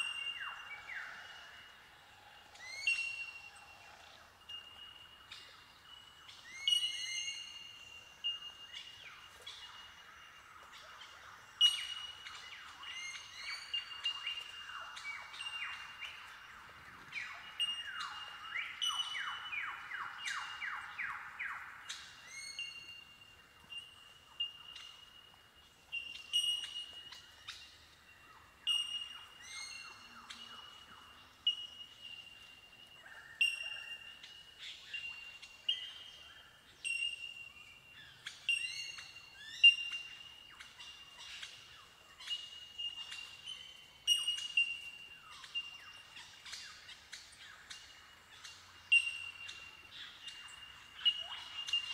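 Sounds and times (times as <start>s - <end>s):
birds ringing tink calls: 0.0s - 51.9s.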